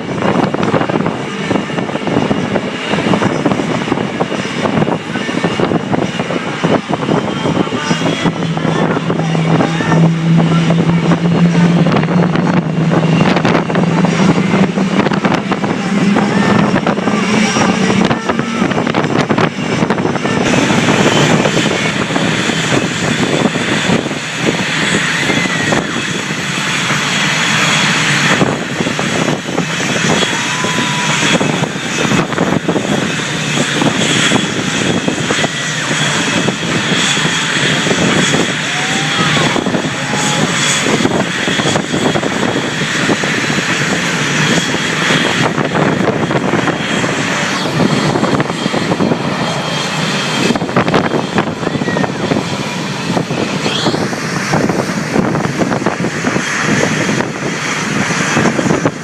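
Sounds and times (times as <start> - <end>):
loud aircraft engine: 0.0 - 59.0.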